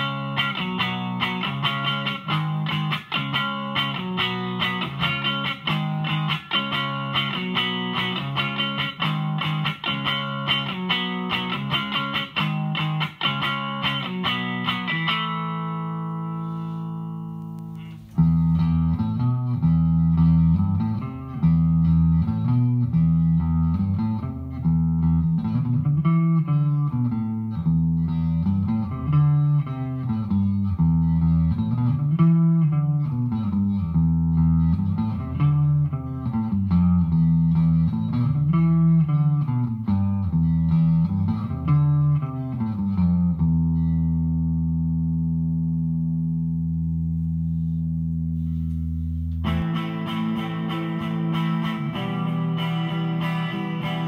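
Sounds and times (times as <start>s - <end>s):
clean electric guitar chords: 0.0s - 54.0s.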